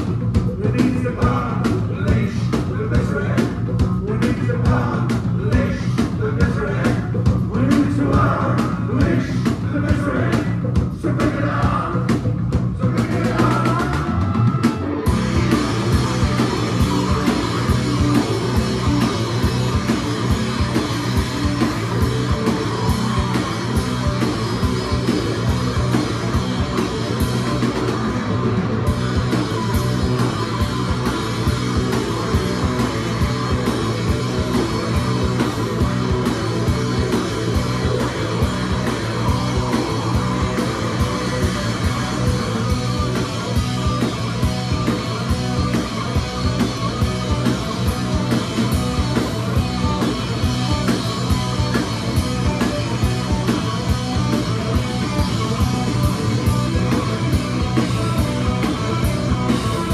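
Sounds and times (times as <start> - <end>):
distorted electric guitars: 0.0 - 59.9
drum kit beat: 0.0 - 59.9.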